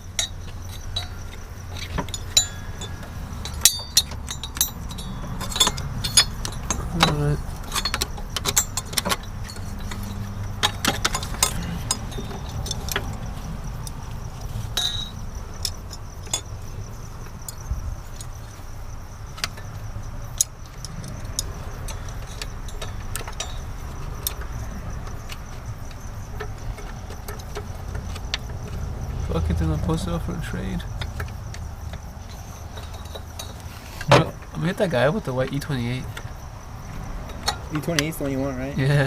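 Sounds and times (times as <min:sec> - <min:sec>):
metal tools clinking: 0:00.0 - 0:36.4.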